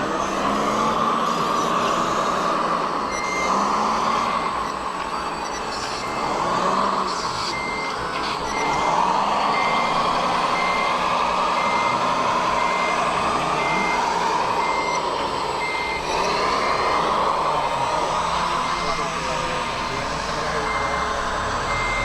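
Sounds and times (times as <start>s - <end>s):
high reversing beeper: 0.0s - 22.0s
model truck motor drone: 0.0s - 22.0s.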